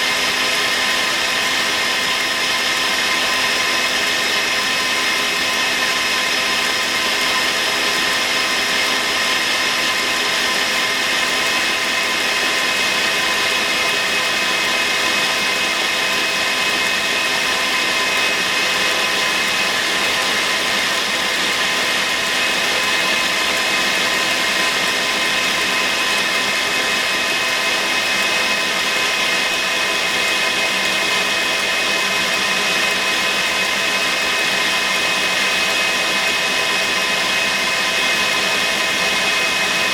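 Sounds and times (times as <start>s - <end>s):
electric mixer whine: 0.0s - 39.9s.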